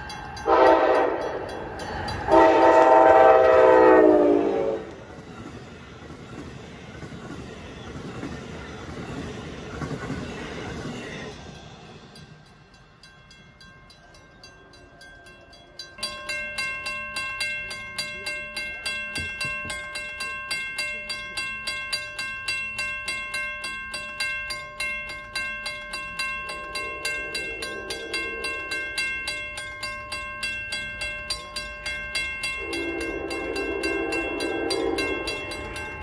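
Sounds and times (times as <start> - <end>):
railroad crossing bell ringing: 0.0 - 36.0
train cars rolling on rails: 0.0 - 36.0.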